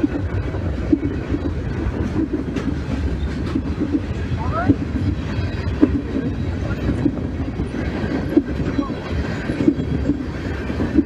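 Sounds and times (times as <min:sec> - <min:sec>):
freight train cars rumbling: 0:00.0 - 0:11.0
wheels clicking over rail joints: 0:00.0 - 0:11.0.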